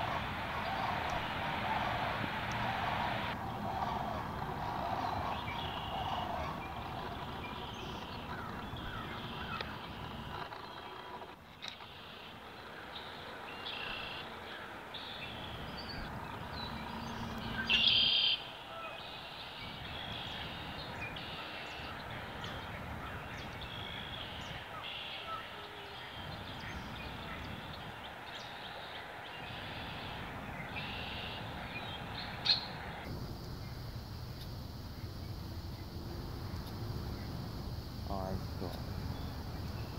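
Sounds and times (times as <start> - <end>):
birds chirping and calling: 0.0 - 12.4, 13.0 - 33.8
outdoor background noise: 0.0 - 39.9.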